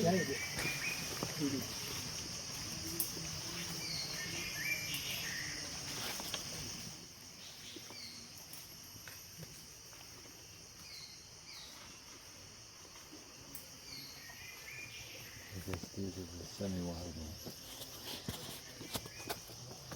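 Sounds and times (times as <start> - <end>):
insects droning: 0.0 - 19.9.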